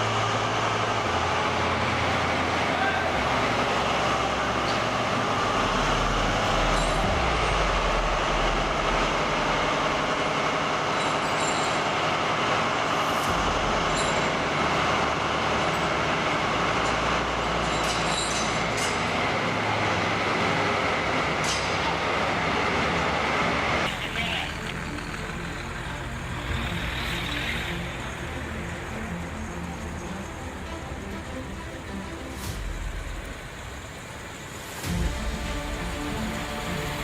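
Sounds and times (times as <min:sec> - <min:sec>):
heavy vehicle engine rumble: 0:00.0 - 0:37.0.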